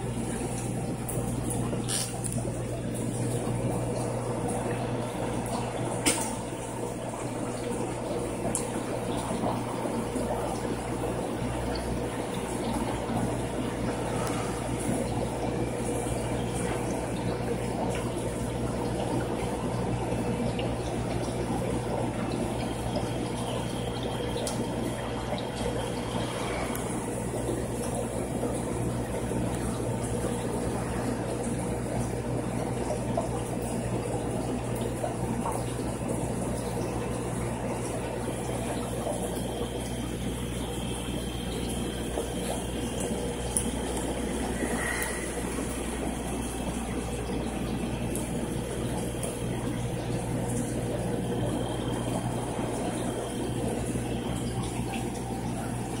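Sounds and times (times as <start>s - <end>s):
low pump hum: 0.0s - 56.0s
water trickling and splashing: 0.0s - 56.0s.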